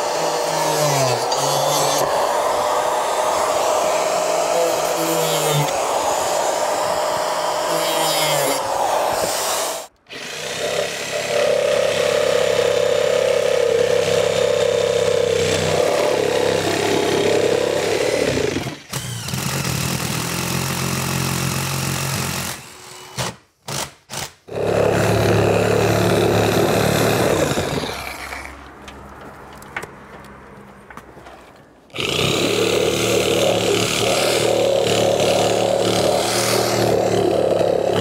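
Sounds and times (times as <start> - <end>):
drill boring through siding: 0.0 - 28.5, 31.9 - 38.0
reciprocating saw cutting: 0.0 - 28.6, 31.9 - 38.0.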